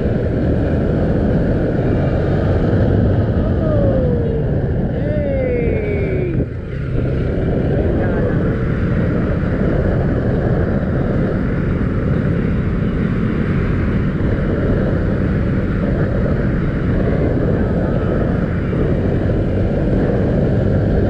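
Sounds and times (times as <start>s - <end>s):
motorcycle engine running: 0.0s - 21.0s
wind noise: 0.0s - 21.0s.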